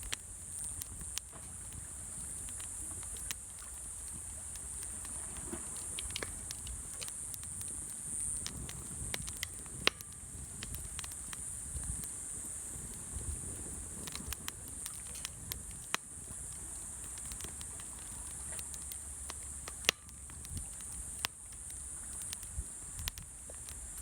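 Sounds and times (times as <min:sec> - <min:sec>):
steady high hiss: 0:00.0 - 0:24.0
wood fire crackling: 0:00.0 - 0:24.0.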